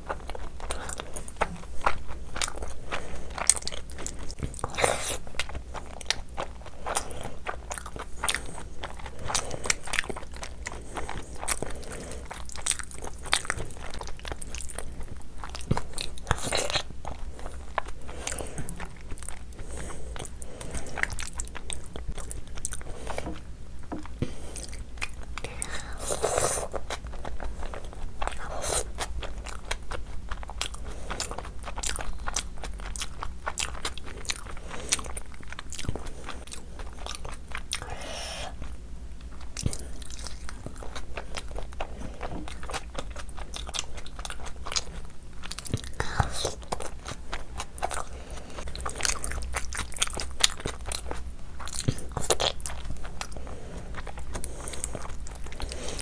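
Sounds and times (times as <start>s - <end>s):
biting and chewing food: 0.0s - 56.0s.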